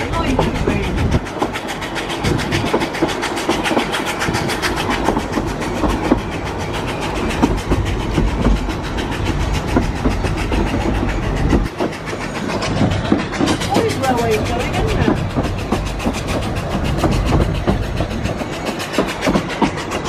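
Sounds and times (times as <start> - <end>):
train wheels rattling on rails: 0.0 - 20.0.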